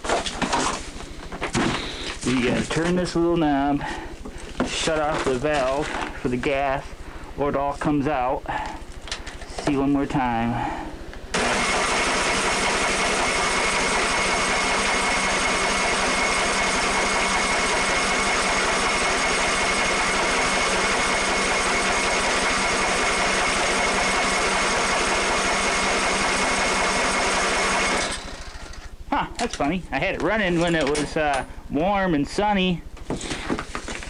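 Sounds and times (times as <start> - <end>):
electric starter cranking engine: 0.0 - 31.8.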